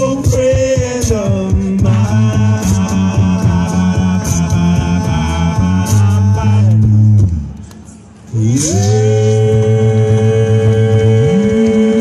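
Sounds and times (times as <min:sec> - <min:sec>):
a cappella group singing: 0:00.0 - 0:07.2, 0:08.3 - 0:12.0
vocal bass line: 0:00.0 - 0:07.6, 0:08.3 - 0:12.0
beatboxed percussion: 0:00.0 - 0:12.0.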